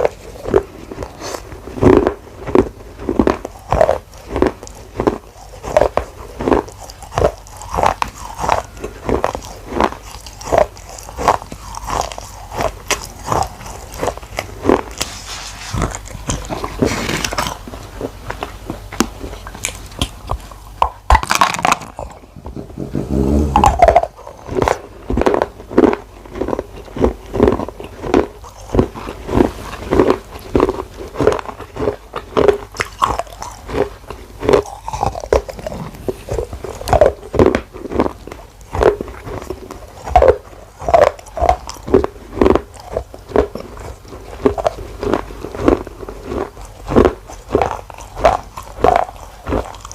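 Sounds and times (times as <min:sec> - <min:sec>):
biting and chewing wet clay: 0:00.0 - 0:49.9.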